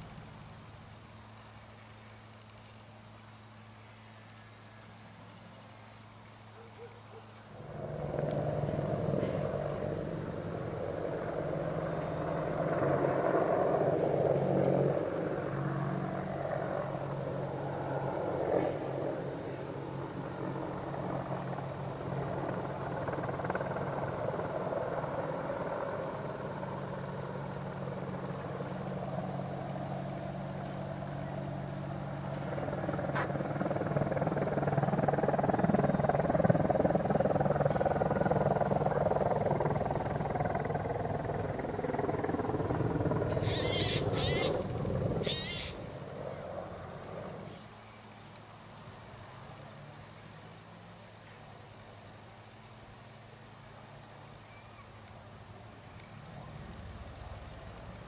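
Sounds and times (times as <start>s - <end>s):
helicopter rotor and engines droning: 0.0s - 58.0s.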